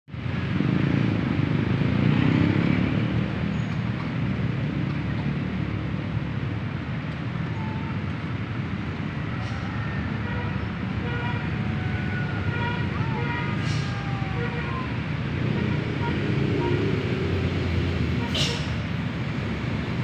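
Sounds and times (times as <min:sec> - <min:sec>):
street traffic: 0:00.1 - 0:20.0.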